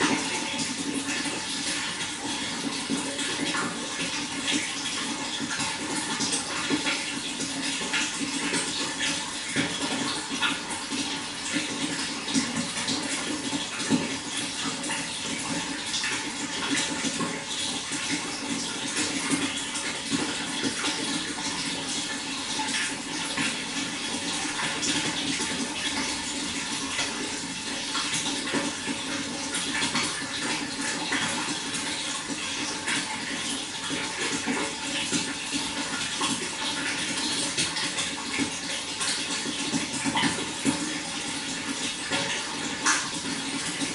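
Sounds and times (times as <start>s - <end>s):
running water splashing: 0.0s - 43.9s.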